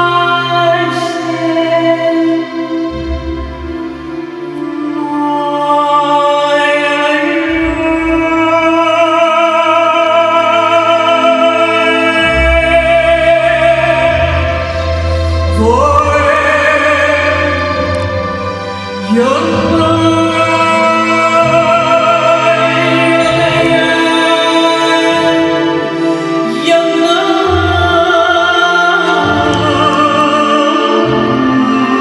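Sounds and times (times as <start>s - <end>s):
sustained backing chords: 0.0s - 32.0s
woman singing operatically: 0.0s - 32.0s.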